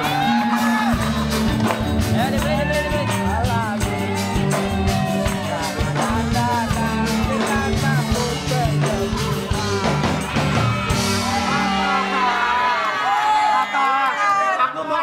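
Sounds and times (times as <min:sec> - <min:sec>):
upbeat band music with singing: 0:00.0 - 0:13.1.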